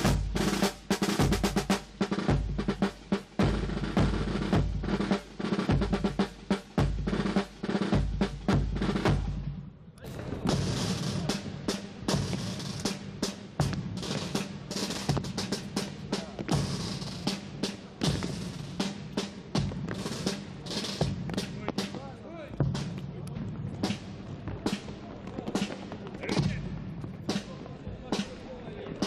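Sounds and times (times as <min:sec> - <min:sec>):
bass drum beats: 0:00.0 - 0:09.6, 0:10.2 - 0:28.3
snare drum rolls: 0:00.0 - 0:29.0.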